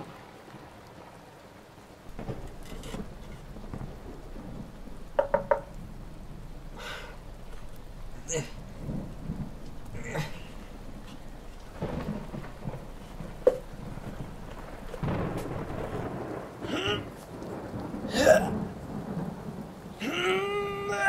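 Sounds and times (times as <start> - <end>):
low thunder rumbling: 0.0 - 21.0
rain falling: 0.0 - 21.0.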